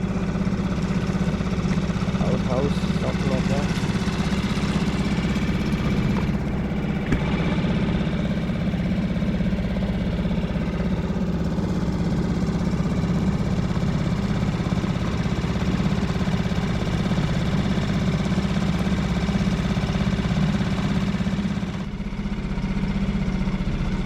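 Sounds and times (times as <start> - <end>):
small boat motor running: 0.0 - 24.0.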